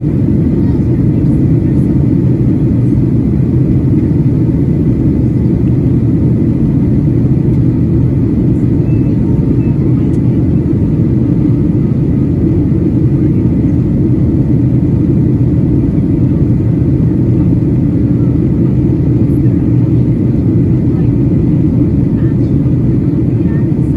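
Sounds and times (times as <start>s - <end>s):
airplane cabin rumble: 0.0s - 23.9s.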